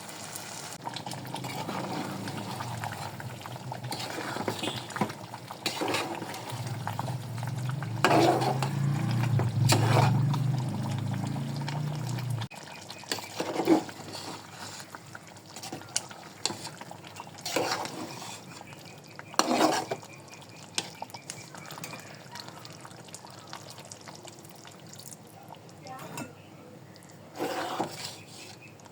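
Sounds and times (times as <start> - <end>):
spoon stirring curry: 0.4 - 25.2, 26.1 - 28.9.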